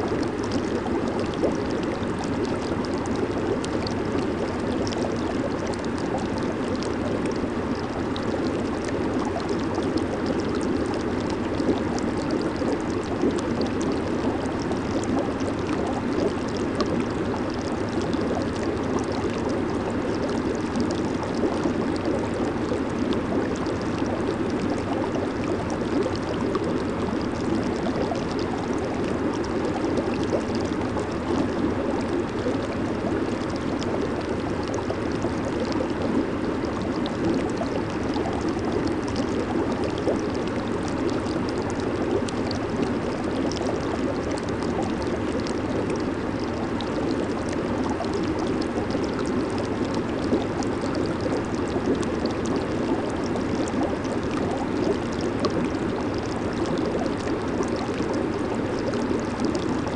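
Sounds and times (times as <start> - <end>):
jacuzzi jets churning water: 0.0 - 59.9.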